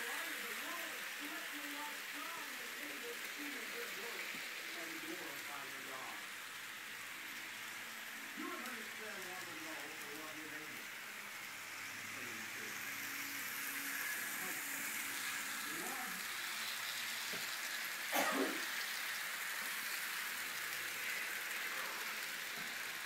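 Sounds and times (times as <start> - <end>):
toy cars and trains whirring: 0.0 - 23.0.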